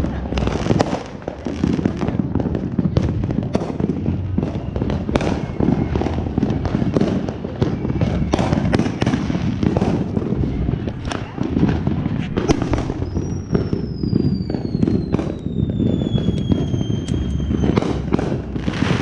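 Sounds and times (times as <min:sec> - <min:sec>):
fireworks bangs and pops: 0:00.0 - 0:19.0
rumbling fireworks background: 0:00.0 - 0:19.0.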